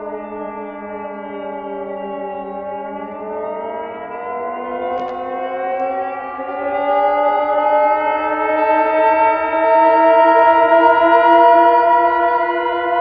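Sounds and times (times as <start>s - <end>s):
air raid siren wailing: 0.0s - 13.0s.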